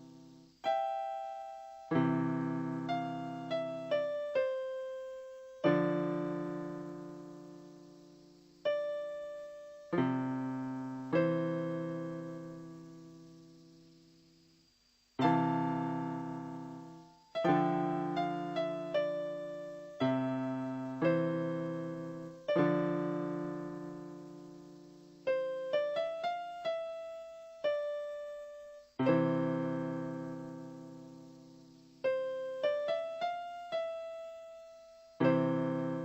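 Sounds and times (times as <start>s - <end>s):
slow piano music: 0.0s - 14.0s, 15.2s - 36.0s.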